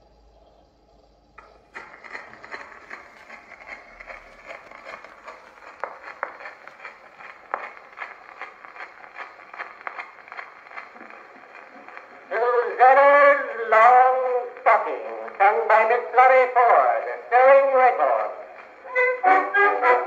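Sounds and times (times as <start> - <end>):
phonograph surface hiss and crackle: 0.0 - 20.0
faint regular ticks: 1.4 - 20.0.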